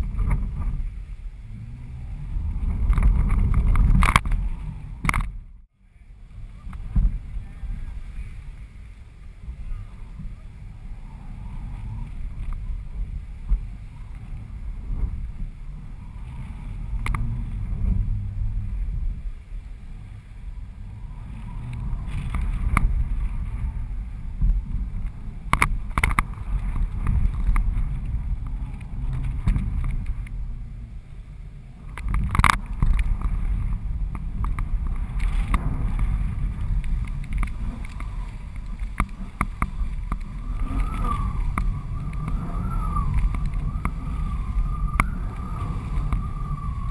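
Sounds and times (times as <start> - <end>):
wind rushing over camera: 0.0 - 46.9.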